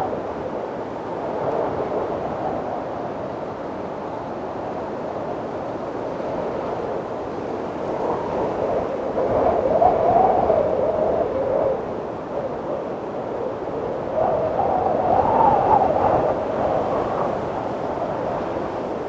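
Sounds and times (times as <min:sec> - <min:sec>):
howling wind gust: 0:00.0 - 0:19.0.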